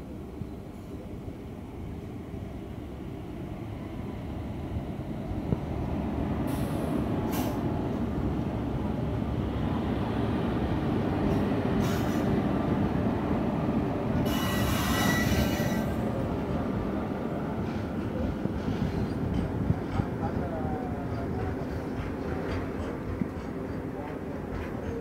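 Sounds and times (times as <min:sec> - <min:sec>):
train wheels rumbling: 0:04.0 - 0:25.0.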